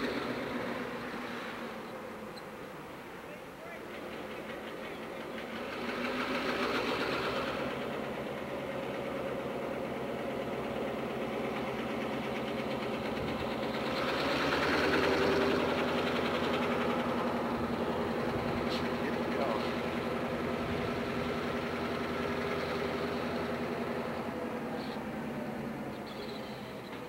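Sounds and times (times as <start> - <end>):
diesel locomotive engine running: 0.0 - 27.0.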